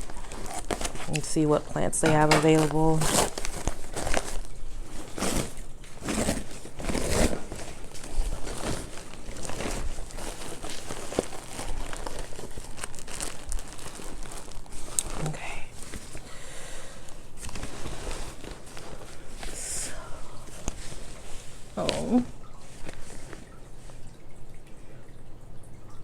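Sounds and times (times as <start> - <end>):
packaging crinkling: 0.0 - 24.2.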